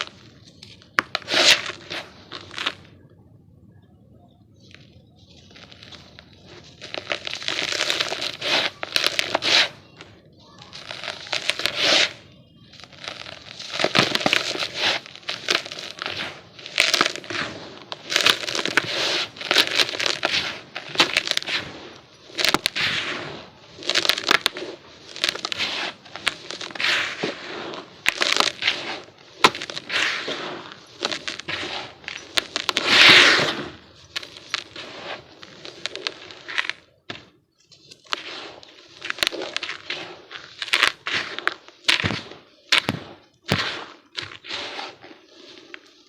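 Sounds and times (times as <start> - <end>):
dry dirt crumbled by hand: 0.0 - 3.0, 4.6 - 46.0.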